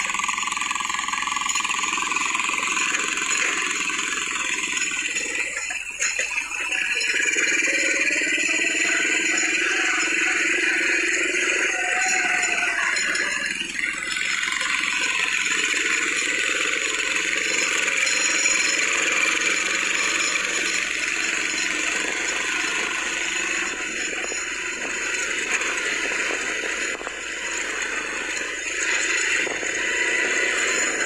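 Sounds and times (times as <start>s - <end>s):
atv engine running: 0.0s - 31.0s
vehicle body rattling over bumps: 0.0s - 31.0s.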